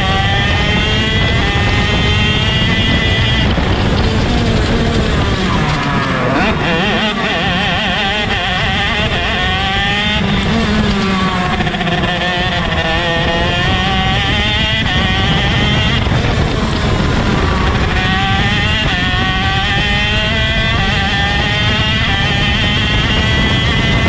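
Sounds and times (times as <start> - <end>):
kart engine racing: 0.0 - 24.0
other kart engines: 0.0 - 24.0.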